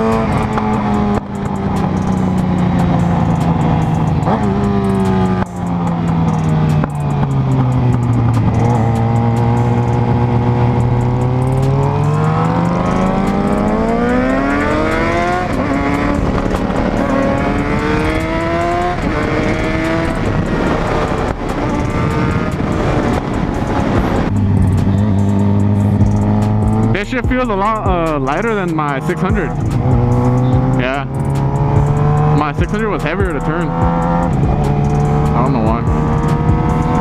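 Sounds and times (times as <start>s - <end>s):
motorcycle engine accelerating: 0.0s - 37.0s
wind and road noise: 0.0s - 37.0s.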